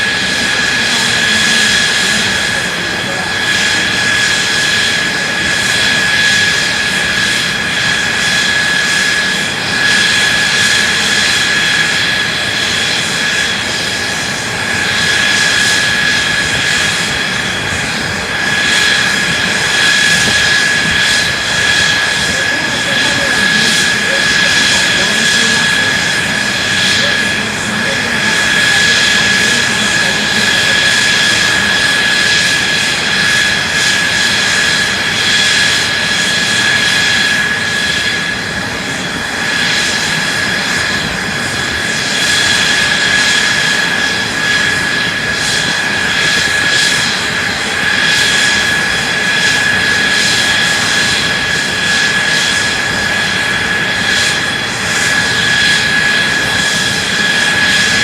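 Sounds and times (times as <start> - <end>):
jet engine running: 0.0 - 58.0.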